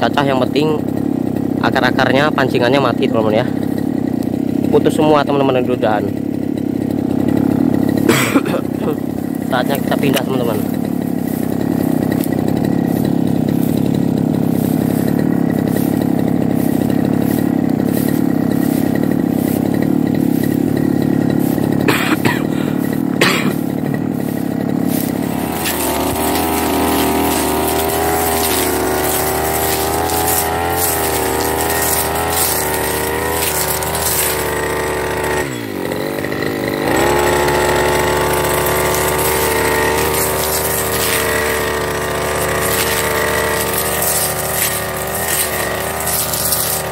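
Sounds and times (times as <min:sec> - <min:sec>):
brush cutter engine running: 0:00.0 - 0:46.9.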